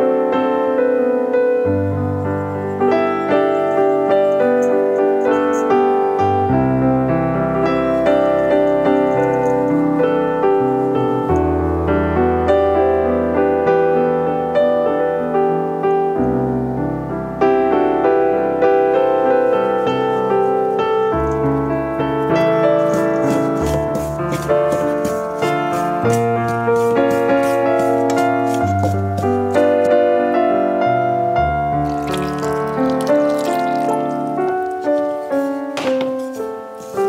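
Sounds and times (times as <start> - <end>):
background piano music: 0.0 - 37.0.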